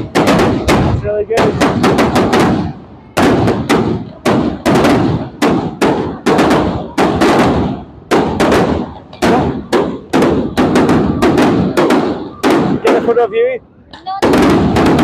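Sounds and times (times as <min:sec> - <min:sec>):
fireworks exploding: 0:00.0 - 0:15.0.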